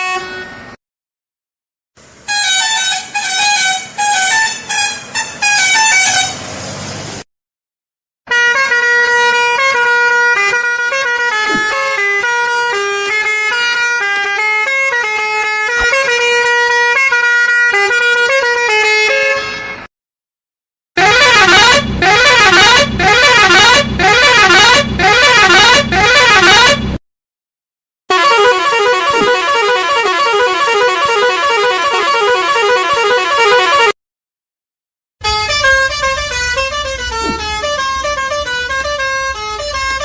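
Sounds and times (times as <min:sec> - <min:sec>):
bus musical horn tune: 0:00.0 - 0:00.8, 0:02.0 - 0:06.6, 0:08.3 - 0:19.9, 0:21.0 - 0:27.0, 0:28.1 - 0:34.0, 0:35.2 - 0:40.0
warbling horn blasts: 0:02.2 - 0:06.4, 0:08.3 - 0:19.8, 0:21.0 - 0:27.0, 0:28.1 - 0:34.0, 0:35.2 - 0:40.0.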